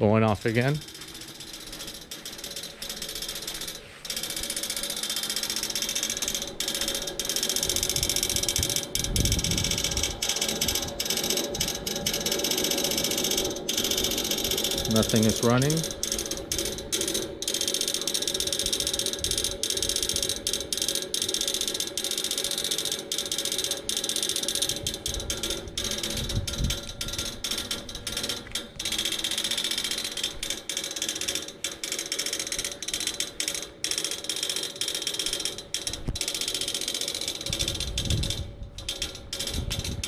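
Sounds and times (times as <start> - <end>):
air conditioner unit clicking rapidly: 0.0 - 40.0.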